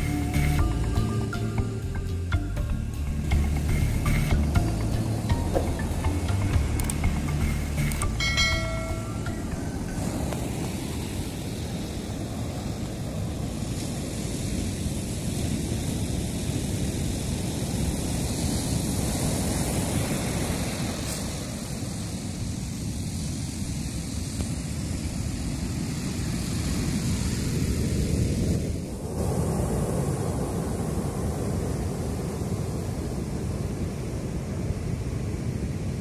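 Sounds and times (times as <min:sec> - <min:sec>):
rough surf breaking: 0:03.2 - 0:36.0.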